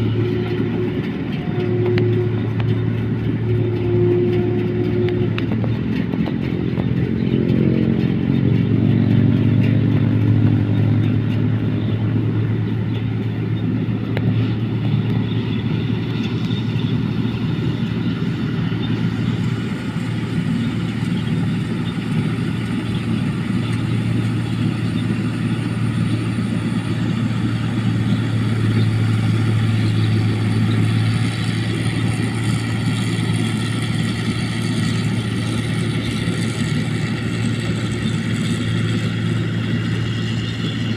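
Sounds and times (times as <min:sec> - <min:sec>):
harvesting machine engine running: 0:00.0 - 0:40.9.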